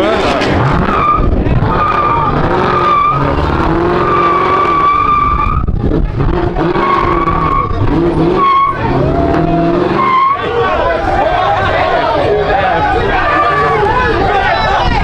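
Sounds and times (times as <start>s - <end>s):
car engine running hard: 0.0s - 15.0s
car tyres squealing: 0.0s - 15.0s.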